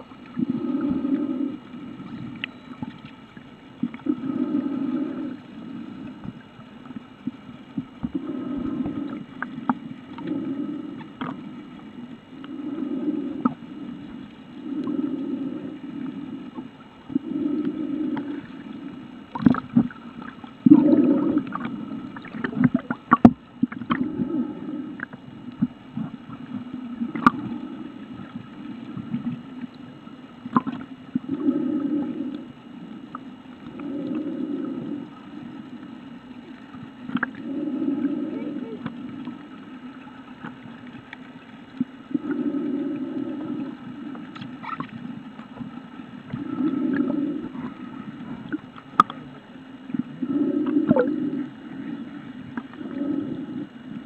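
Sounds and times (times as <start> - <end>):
underwater water movement: 0.0 - 54.0.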